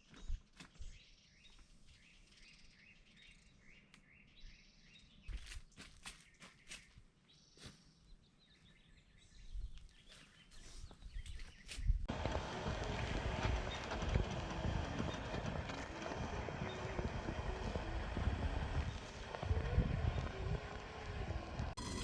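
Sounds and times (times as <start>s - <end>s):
small birds chirping: 0.0s - 21.8s.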